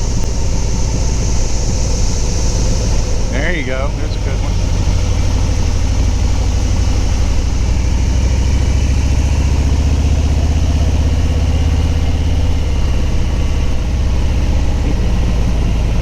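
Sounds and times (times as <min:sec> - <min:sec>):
cicadas droning: 0:00.0 - 0:16.0
motorcycle engine running: 0:00.0 - 0:16.0.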